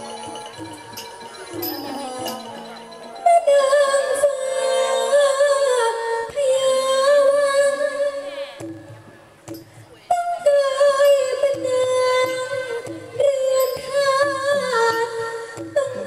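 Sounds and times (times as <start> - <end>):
woman singing into microphone: 0.0 - 9.0, 9.9 - 16.0.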